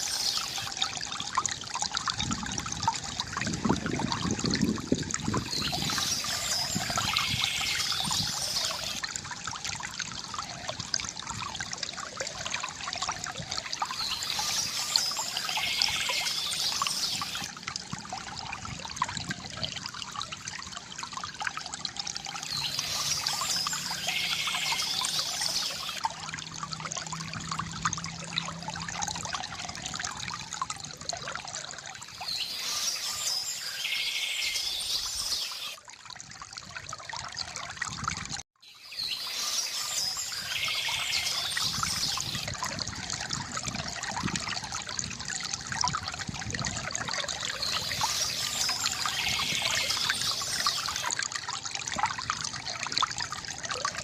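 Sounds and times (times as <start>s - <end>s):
fountain water trickling: 0.0s - 54.0s.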